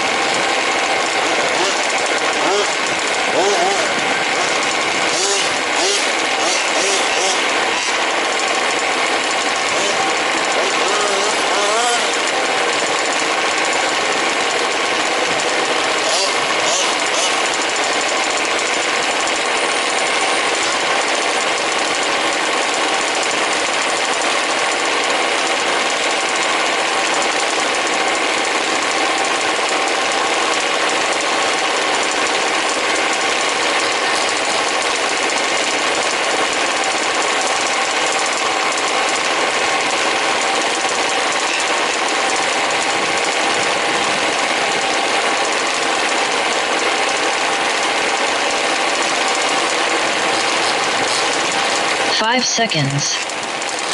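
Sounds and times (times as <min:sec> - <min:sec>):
small two-stroke engines buzzing: 0:00.0 - 0:53.9.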